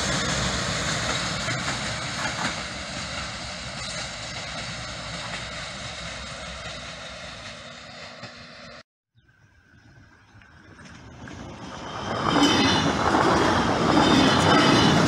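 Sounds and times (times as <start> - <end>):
train wheels rumbling on rails: 0.0 - 8.8, 10.7 - 15.0.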